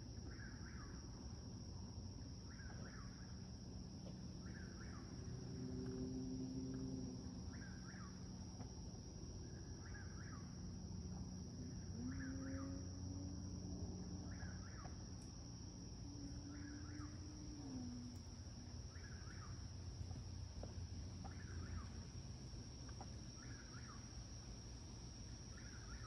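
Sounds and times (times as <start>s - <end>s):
night insects droning: 0.0s - 26.0s.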